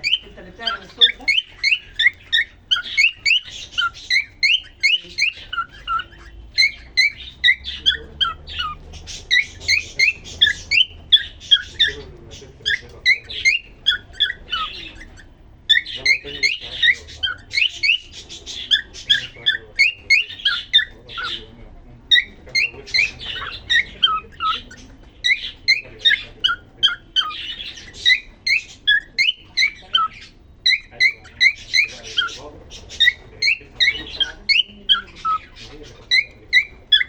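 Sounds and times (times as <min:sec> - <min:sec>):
cockatiel chirping and whistling: 0:00.0 - 0:21.4, 0:22.1 - 0:37.0.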